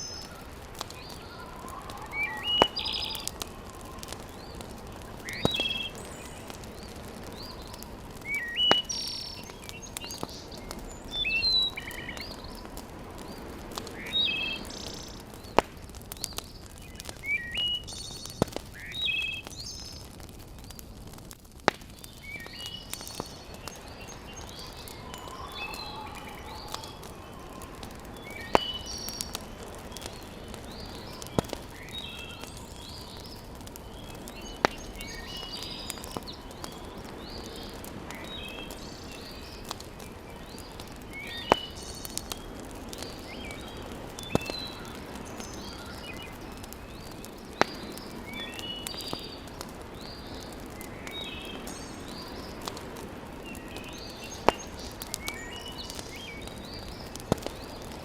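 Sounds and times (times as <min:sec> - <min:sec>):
small birds chirping: 0:00.0 - 0:58.0
wood fire crackling: 0:00.0 - 0:58.0.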